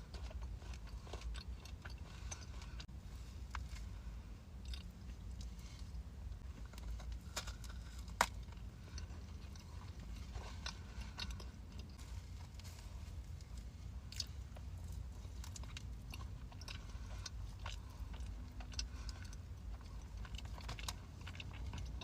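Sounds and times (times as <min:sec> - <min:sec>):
person chewing crunchy pastry: 0:00.0 - 0:22.0.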